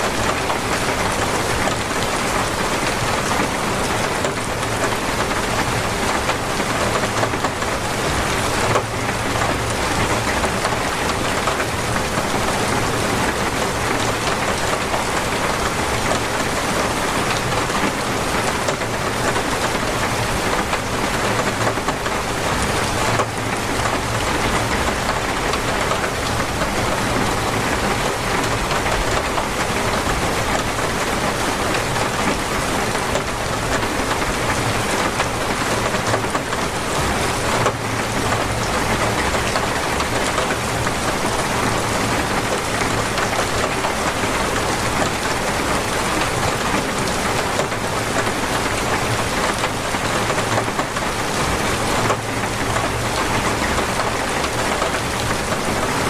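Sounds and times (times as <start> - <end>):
torrential rain pouring: 0.0 - 56.0.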